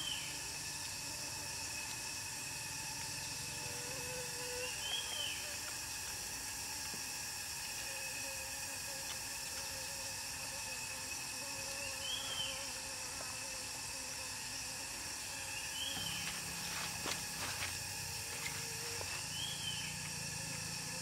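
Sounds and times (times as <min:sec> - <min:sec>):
even hiss: 0:00.0 - 0:21.0
insects calling: 0:00.0 - 0:21.0.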